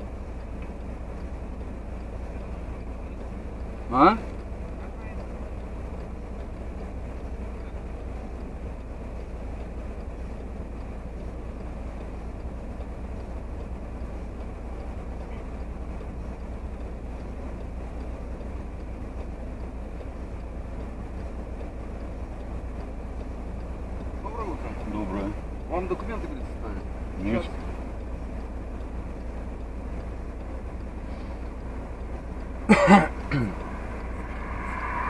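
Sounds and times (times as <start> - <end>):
car engine idling: 0.0 - 35.0
faint street traffic: 0.0 - 35.0.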